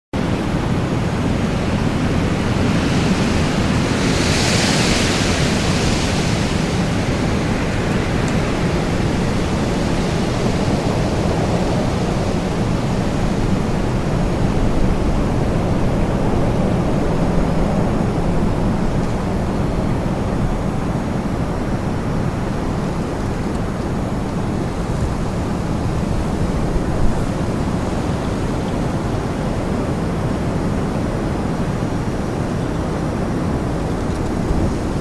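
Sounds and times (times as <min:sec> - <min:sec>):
strong storm wind blowing: 0:00.2 - 0:35.0.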